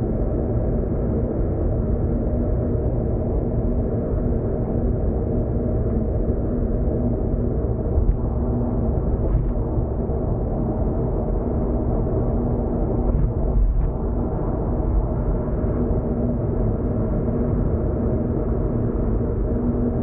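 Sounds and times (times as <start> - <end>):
car road and engine rumble: 0.0 - 20.0
low hum: 0.0 - 20.0.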